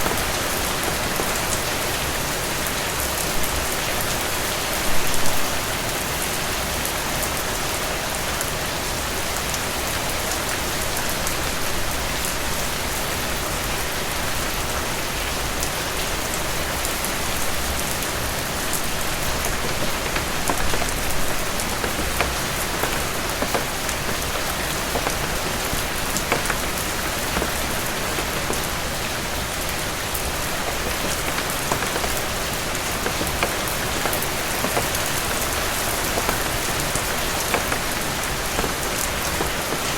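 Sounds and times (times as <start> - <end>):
rain on a cabin roof: 0.0 - 39.9.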